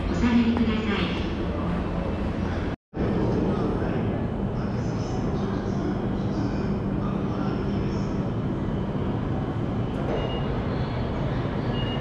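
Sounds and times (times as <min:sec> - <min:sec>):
rumble and hum of trains and crowd: 0:00.0 - 0:12.0.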